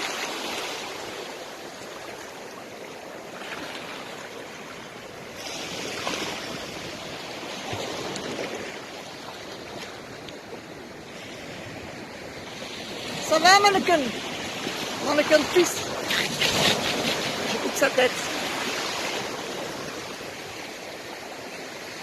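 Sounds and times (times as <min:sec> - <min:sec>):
sea surf washing in: 0:00.0 - 0:22.0.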